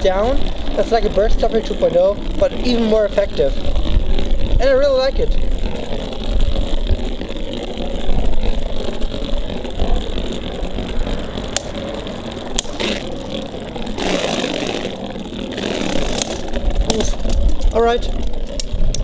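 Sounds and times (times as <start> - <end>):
spinning tops whirring scrape: 0.0 - 19.0.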